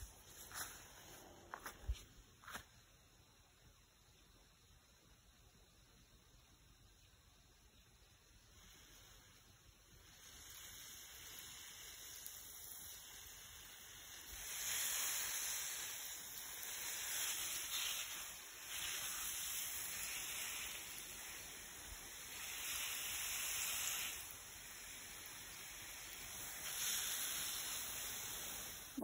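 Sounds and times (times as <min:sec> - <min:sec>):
garden hose spraying: 0:00.0 - 0:03.0, 0:05.6 - 0:29.0.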